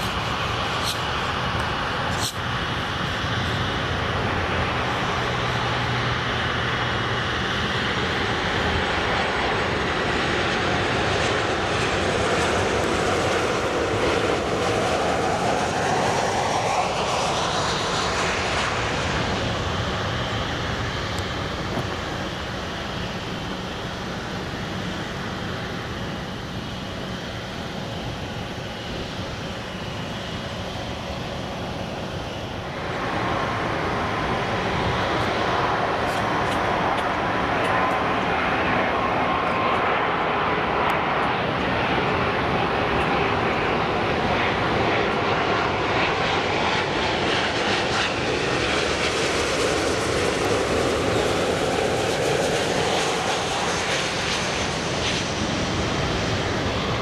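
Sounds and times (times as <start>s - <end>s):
jet airliner engines roaring: 0.0s - 57.0s
jet engine whine: 0.0s - 57.0s.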